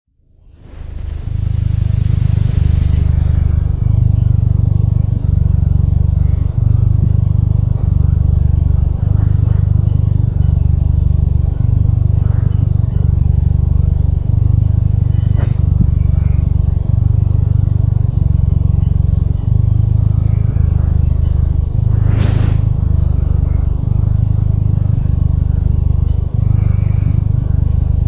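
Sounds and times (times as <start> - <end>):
cat purring: 0.5 - 28.0.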